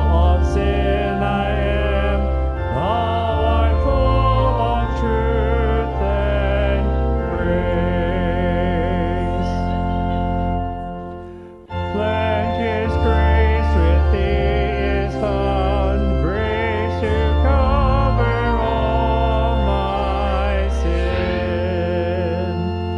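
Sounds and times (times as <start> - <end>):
voices singing a hymn: 0.0 - 10.5, 11.7 - 22.9
organ chords: 0.0 - 22.9.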